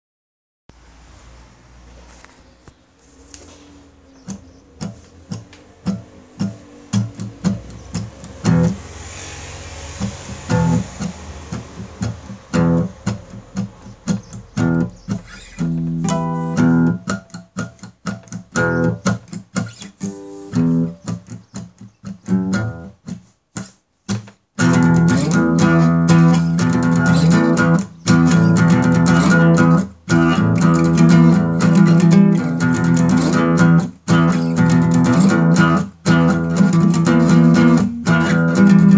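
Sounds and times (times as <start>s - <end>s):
guitar and bass music: 3.0s - 38.9s
plucked guitar notes: 4.0s - 9.0s, 9.8s - 23.0s, 24.6s - 38.9s.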